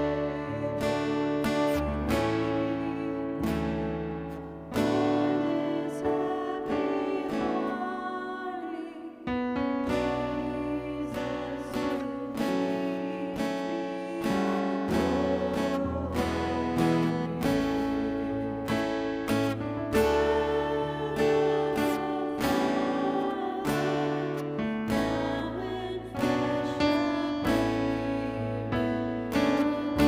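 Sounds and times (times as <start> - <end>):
acoustic guitar strumming: 0.0 - 8.6, 9.3 - 30.0.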